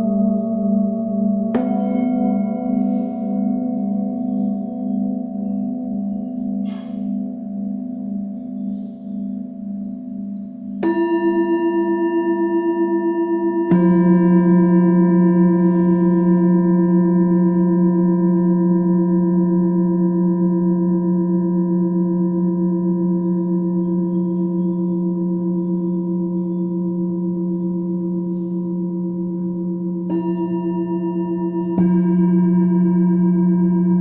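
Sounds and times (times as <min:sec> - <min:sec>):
metal singing bowl ringing: 0:00.0 - 0:34.0.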